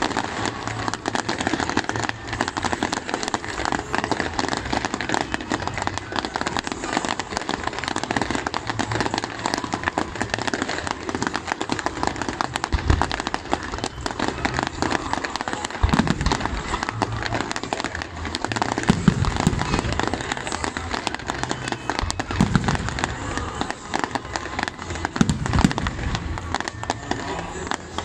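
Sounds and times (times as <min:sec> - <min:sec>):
deep firework booms: 0:00.0 - 0:28.0
fireworks crackling and popping: 0:00.0 - 0:28.0.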